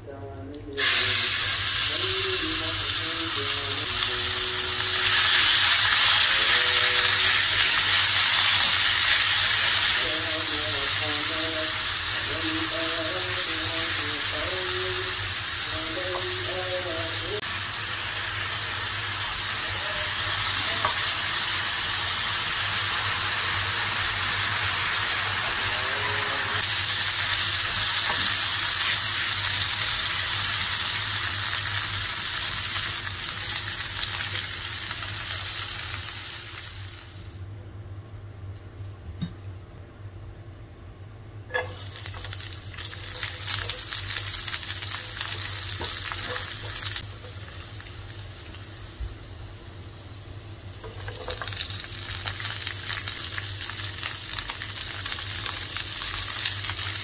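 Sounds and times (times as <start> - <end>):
food sizzling in hot oil: 0.8 - 37.4, 41.5 - 57.0.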